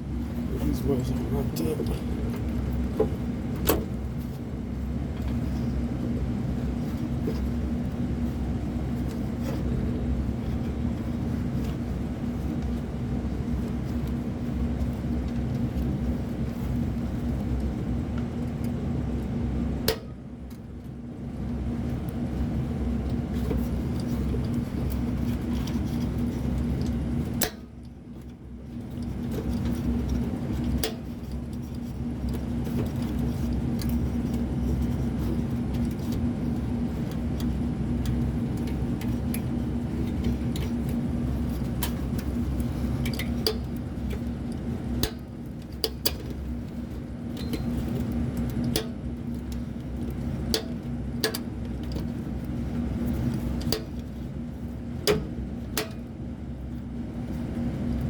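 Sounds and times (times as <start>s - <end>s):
hvac equipment humming: 0.0s - 58.0s.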